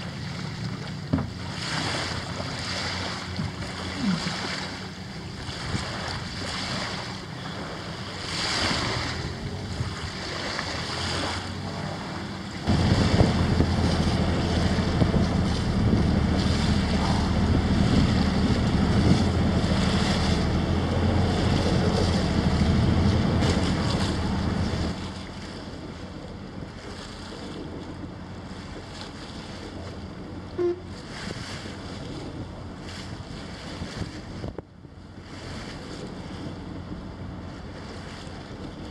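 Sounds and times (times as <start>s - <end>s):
small waves on open water: 0.0s - 38.9s
wind buffeting microphone: 0.0s - 38.9s.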